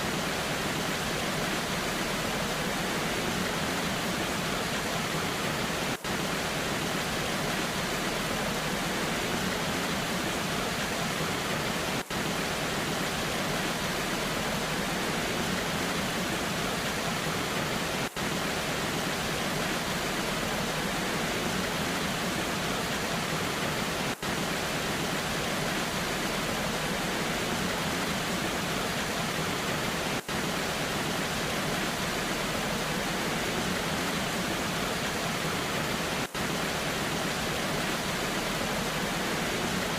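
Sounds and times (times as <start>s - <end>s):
rain: 0.0s - 39.9s
waterfall: 0.0s - 39.9s.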